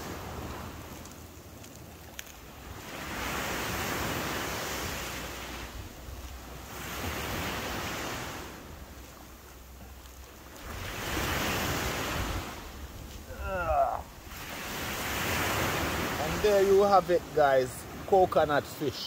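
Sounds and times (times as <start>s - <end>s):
surf washing onto a beach: 0.0s - 19.0s.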